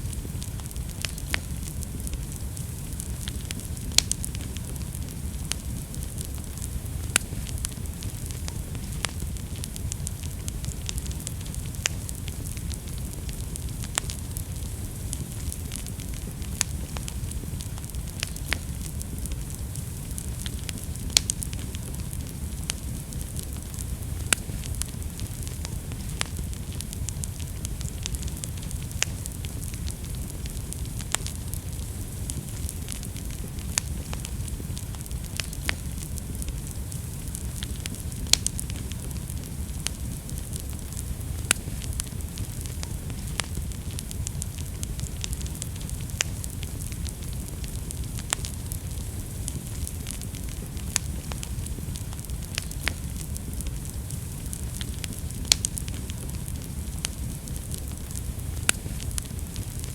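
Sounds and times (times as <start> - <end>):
fire rumble and hiss: 0.0 - 59.9
wood fire crackling and popping: 0.0 - 59.9.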